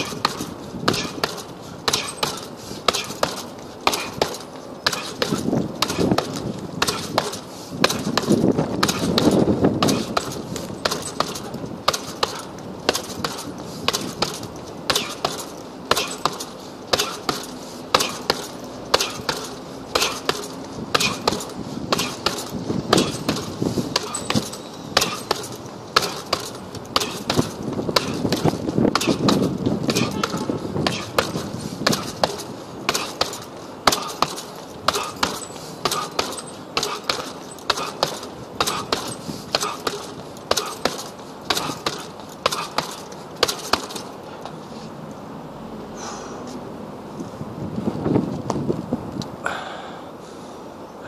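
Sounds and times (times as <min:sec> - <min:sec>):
gloves punching heavy bag: 0:00.0 - 0:44.1.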